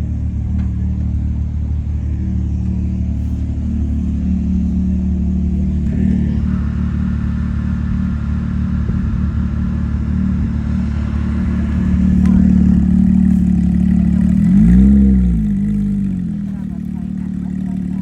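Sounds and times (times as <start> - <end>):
car engine revving: 0.0 - 18.0
car engine running: 0.0 - 18.0.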